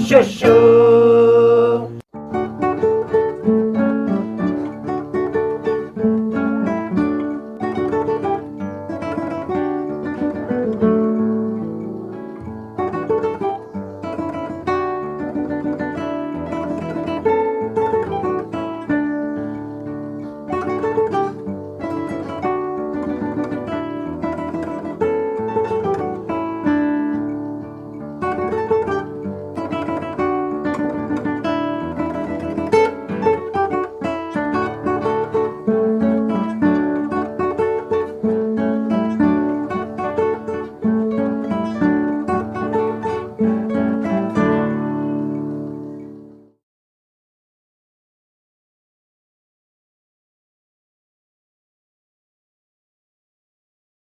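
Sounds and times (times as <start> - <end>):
acoustic guitar music: 0.0 - 46.6.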